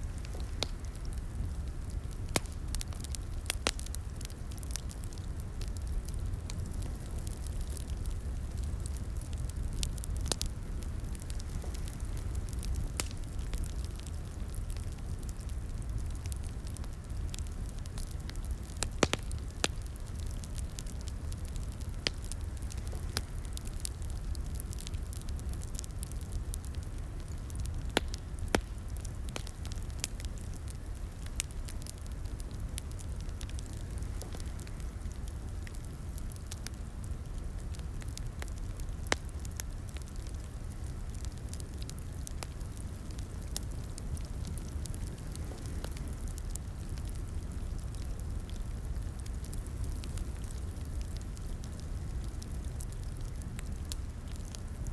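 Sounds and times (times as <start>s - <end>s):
fire crackling and popping: 0.0s - 54.9s
low rumble of flames: 0.0s - 54.9s.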